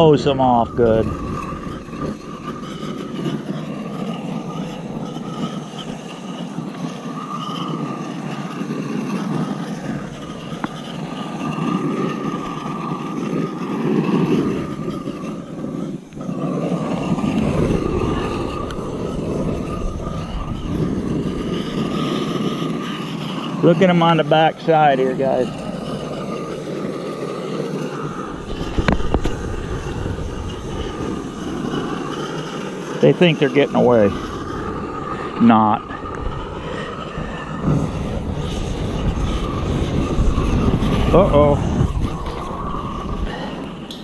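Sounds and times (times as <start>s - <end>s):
high whine: 0.0s - 44.0s
pressure washer running: 0.0s - 44.0s
water spray hissing: 0.0s - 44.0s.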